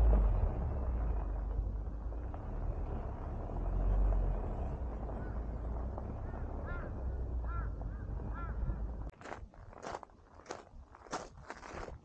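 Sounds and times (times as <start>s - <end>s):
van tyres crunching on gravel: 0.0s - 12.0s.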